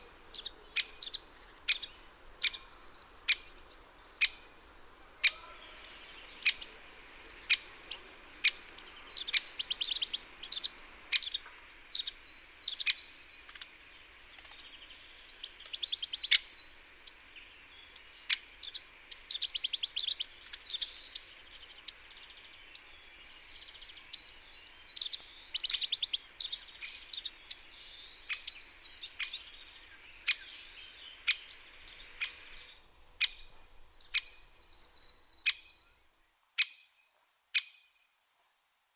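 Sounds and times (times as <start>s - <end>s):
songbirds chirping: 0.0s - 16.8s, 18.8s - 36.4s.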